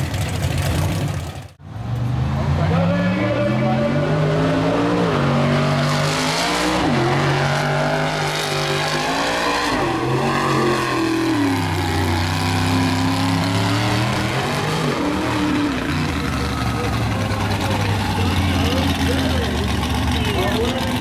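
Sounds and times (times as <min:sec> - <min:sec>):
truck engine revving hard: 0:00.0 - 0:21.0.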